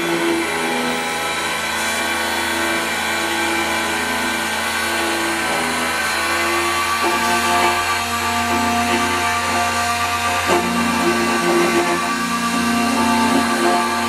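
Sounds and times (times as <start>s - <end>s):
key-cutting machine milling: 0.0s - 14.0s.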